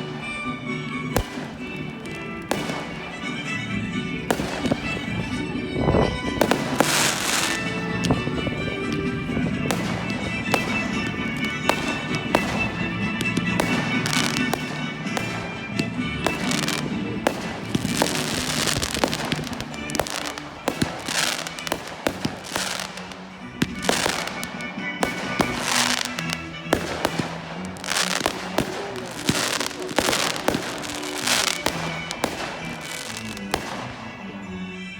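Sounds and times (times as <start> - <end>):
fireworks banging: 0.0 - 34.9
fireworks crackling: 0.0 - 34.9
music playing: 0.0 - 34.9.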